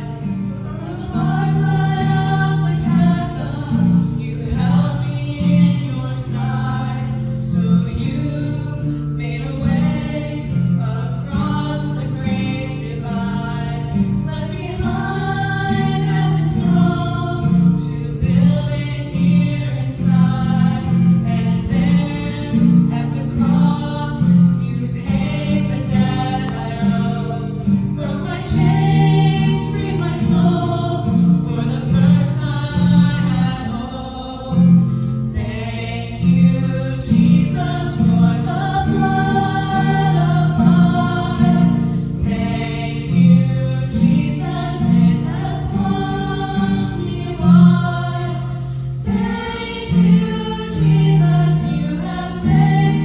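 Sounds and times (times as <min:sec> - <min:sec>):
women's group singing gospel: 0:00.0 - 0:53.0.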